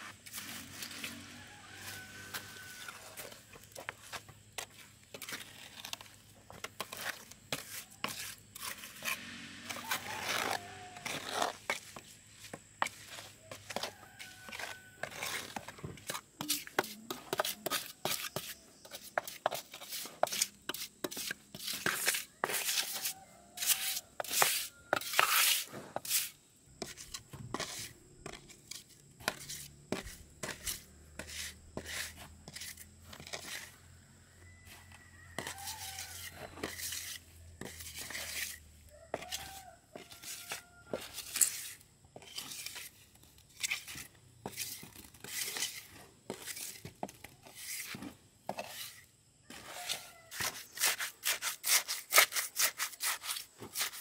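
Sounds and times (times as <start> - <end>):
scraping of materials: 0.0 - 54.0.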